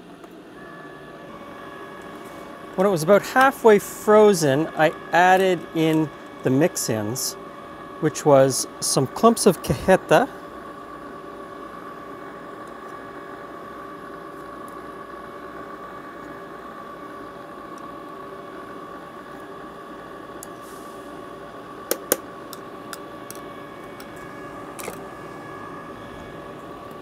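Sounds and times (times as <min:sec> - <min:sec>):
ice cream maker motor hum: 0:00.0 - 0:27.0.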